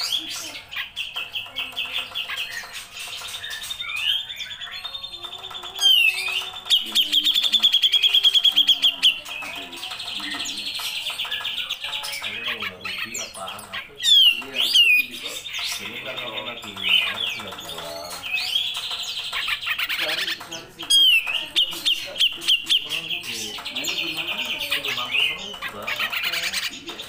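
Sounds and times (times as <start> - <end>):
bird singing chirps and trills: 0.0 - 27.0.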